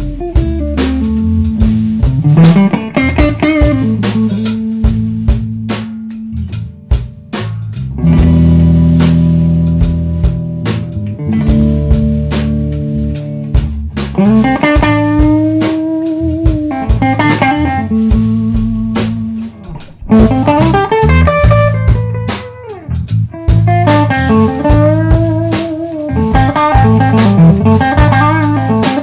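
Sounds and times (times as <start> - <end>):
song with guitar and drums: 0.0 - 29.0.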